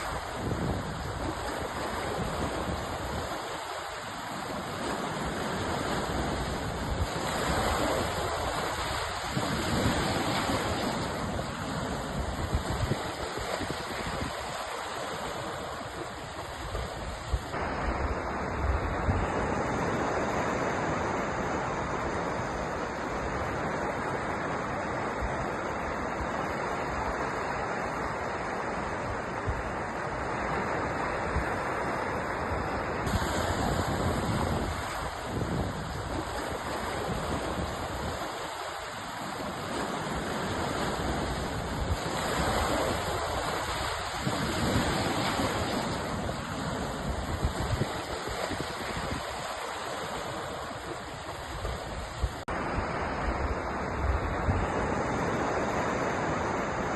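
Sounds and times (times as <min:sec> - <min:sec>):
sea surf washing: 0:00.0 - 0:56.9.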